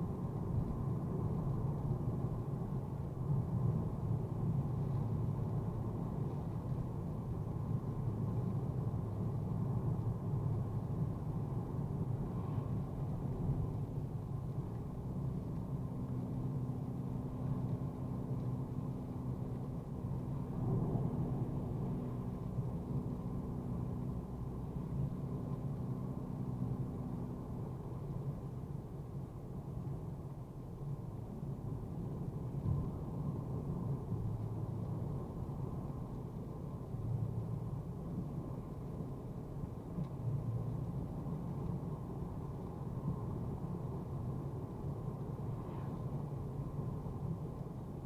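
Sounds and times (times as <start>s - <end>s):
car engine and tyres droning: 0.0s - 48.0s
faint steady hum: 0.0s - 48.0s.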